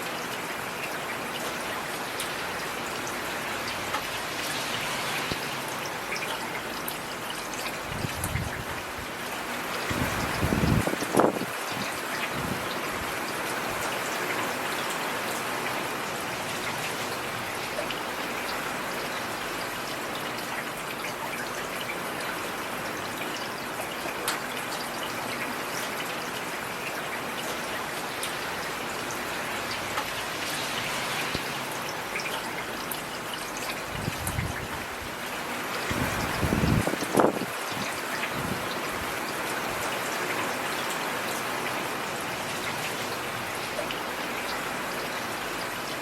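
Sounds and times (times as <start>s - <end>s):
heavy rain pattering: 0.0s - 46.0s.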